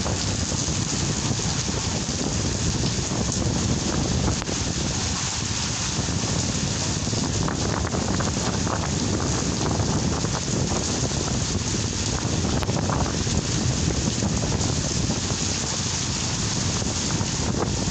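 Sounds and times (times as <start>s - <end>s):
steady rain: 0.0s - 17.9s
wind buffeting microphone: 0.0s - 17.9s.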